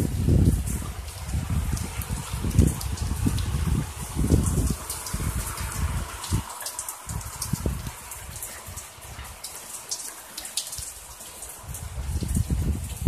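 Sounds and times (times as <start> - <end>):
rain falling on street: 0.0 - 13.0
raindrops ticking: 0.0 - 13.0.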